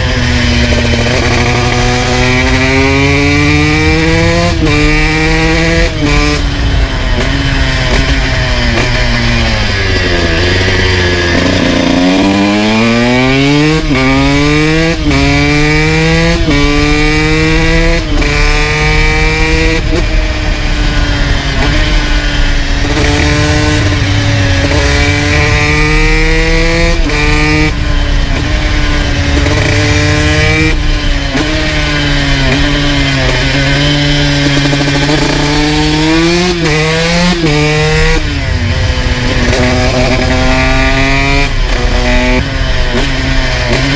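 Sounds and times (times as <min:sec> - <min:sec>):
two-stroke motorcycle engine revving: 0:00.0 - 0:43.9.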